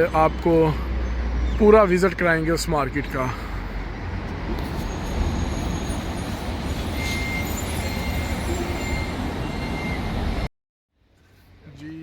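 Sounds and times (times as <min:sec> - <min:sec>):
vehicle road noise: 0:00.0 - 0:10.5.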